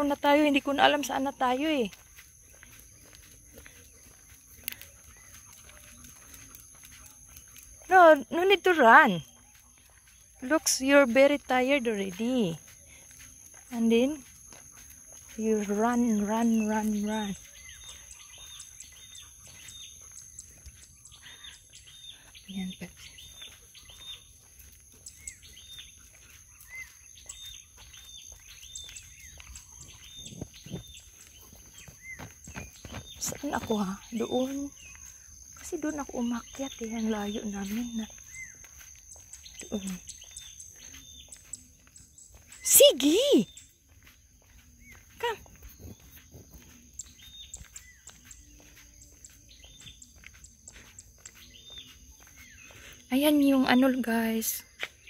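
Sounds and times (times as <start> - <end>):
birds calling: 0.0 - 55.0.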